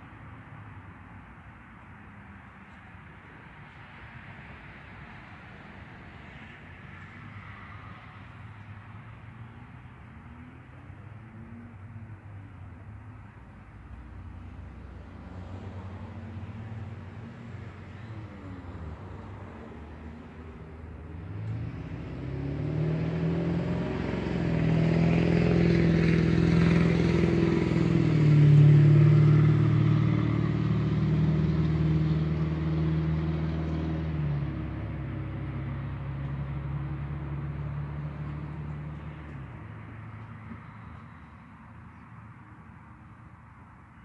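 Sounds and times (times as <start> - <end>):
passing vehicle engine hum: 0.0 - 44.0.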